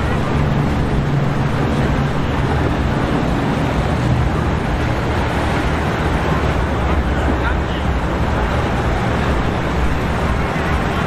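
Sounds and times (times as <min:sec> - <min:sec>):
boat engines droning: 0:00.0 - 0:11.0
churning water: 0:00.0 - 0:11.0.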